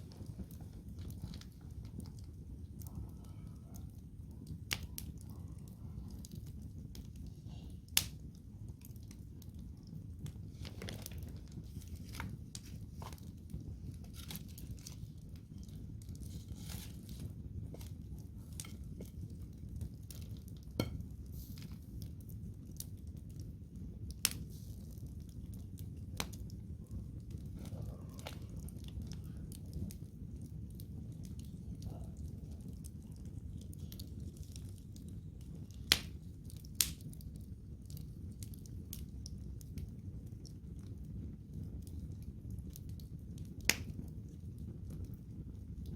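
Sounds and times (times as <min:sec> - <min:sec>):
burning logs popping and snapping: 0:00.0 - 0:45.9
campfire crackling: 0:00.0 - 0:45.9
low rumble of flame: 0:00.0 - 0:45.9.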